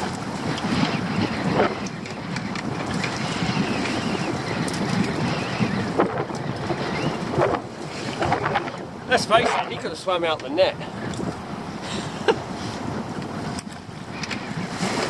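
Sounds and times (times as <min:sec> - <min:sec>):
water slapping around boat: 0:00.0 - 0:15.0
wind buffeting microphone: 0:00.0 - 0:15.0.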